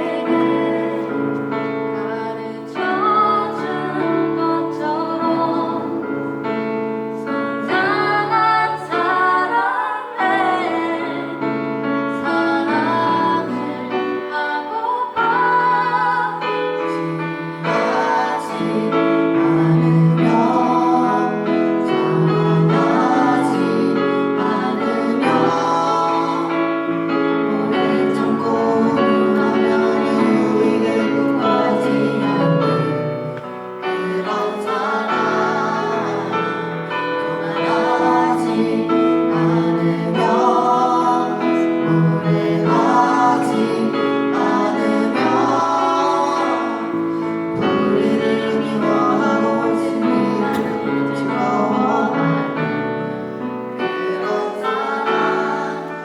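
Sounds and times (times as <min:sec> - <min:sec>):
female voices singing in harmony: 0:00.0 - 0:06.6, 0:07.3 - 0:56.0.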